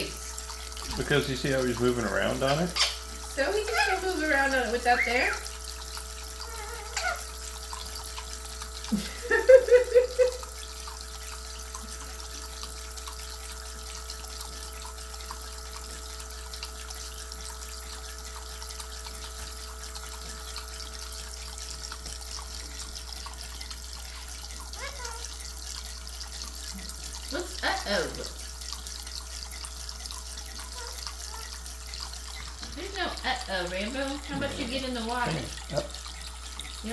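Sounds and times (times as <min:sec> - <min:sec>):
faint steady hum: 0:00.0 - 0:36.9
water running in a sink: 0:00.0 - 0:36.9.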